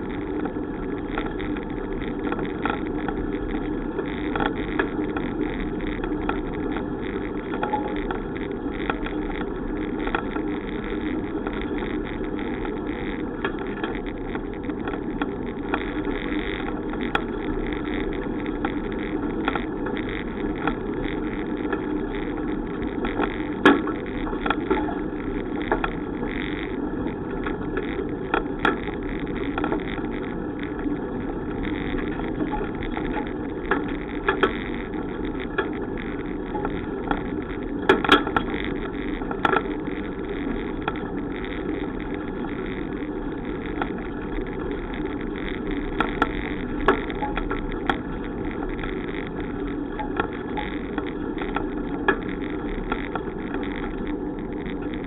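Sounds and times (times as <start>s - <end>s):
wind and bicycle road noise: 0.0s - 55.0s.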